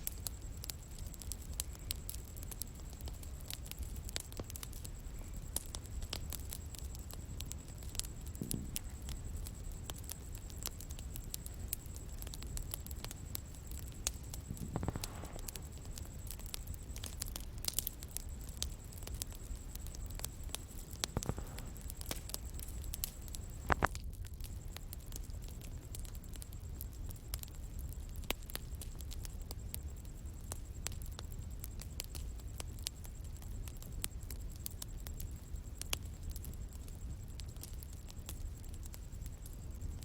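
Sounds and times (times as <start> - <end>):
bonfire crackling: 0.0 - 40.0.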